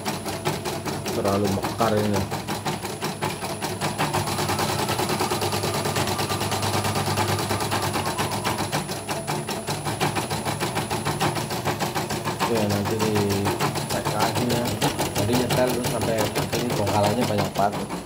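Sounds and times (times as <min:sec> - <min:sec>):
embroidery machine needle clatter: 0:00.0 - 0:18.0.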